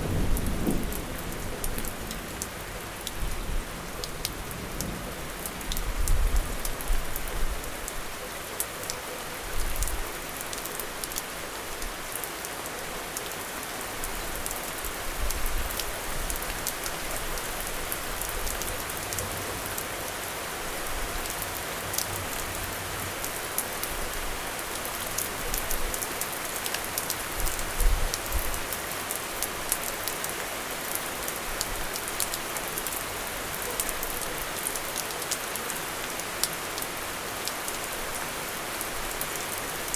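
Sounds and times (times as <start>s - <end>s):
rain drops ticking on hard surface: 0.0s - 39.9s.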